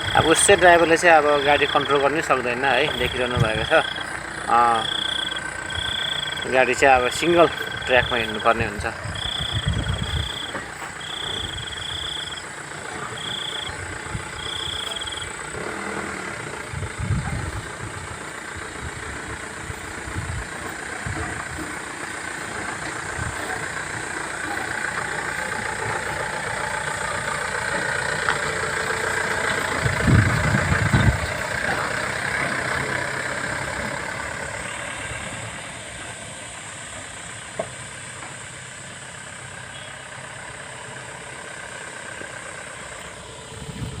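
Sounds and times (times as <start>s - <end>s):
vehicle engine crawling: 0.0s - 44.0s.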